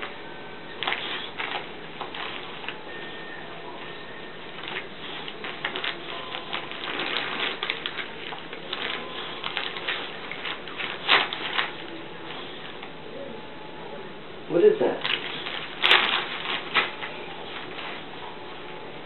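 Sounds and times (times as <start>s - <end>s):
wrapping paper rustling and tearing: 0.0s - 3.2s, 3.8s - 12.9s, 15.0s - 18.8s.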